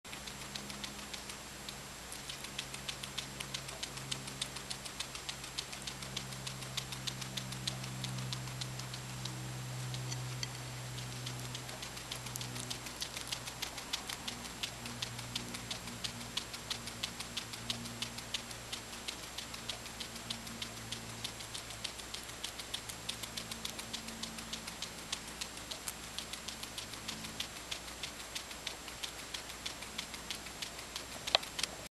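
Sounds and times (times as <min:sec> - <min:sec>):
guinea pig chewing: 0:00.0 - 0:31.9.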